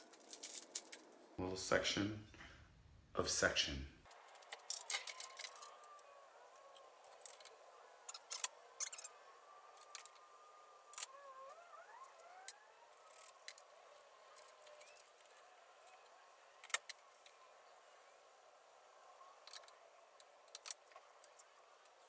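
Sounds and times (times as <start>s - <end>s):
faint wavering whine: 4.1s - 22.0s.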